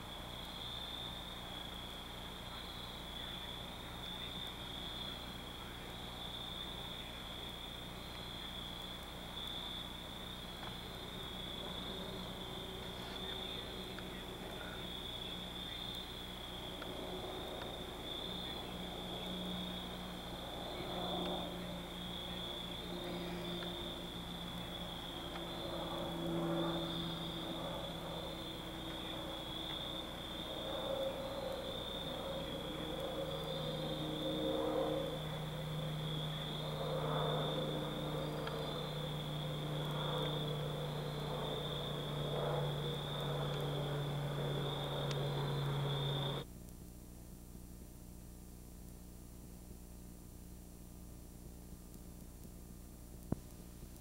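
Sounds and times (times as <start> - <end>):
crickets trilling: 0.0 - 46.5
faint low hum: 0.0 - 54.0.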